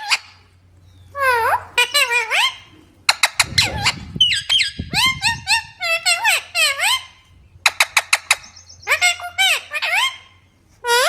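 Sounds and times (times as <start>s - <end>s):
parrots squawking: 1.1s - 11.0s.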